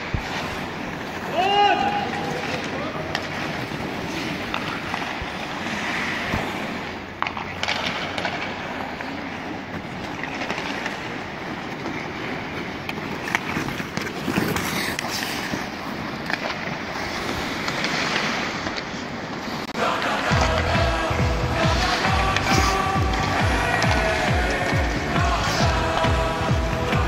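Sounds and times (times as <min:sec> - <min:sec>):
hockey sticks striking puck: 0:00.0 - 0:19.0, 0:19.7 - 0:27.0
skates scraping on ice: 0:00.0 - 0:27.0.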